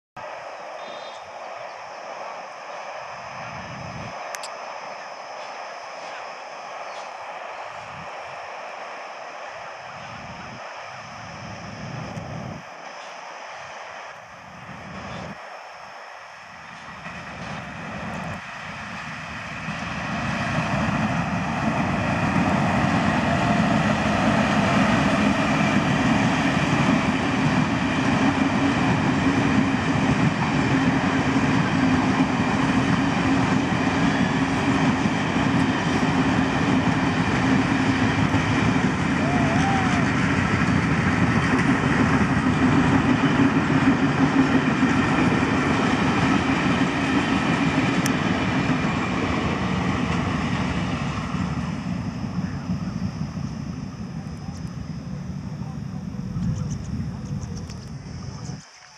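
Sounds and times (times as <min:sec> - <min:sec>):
coaches rushing on rails: 0:00.2 - 0:58.9
electric train passing: 0:00.2 - 0:58.9.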